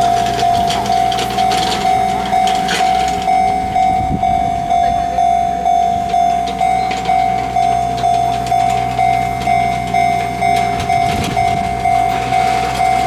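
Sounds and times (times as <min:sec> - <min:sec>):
level-crossing warning bell ringing: 0:00.0 - 0:13.0.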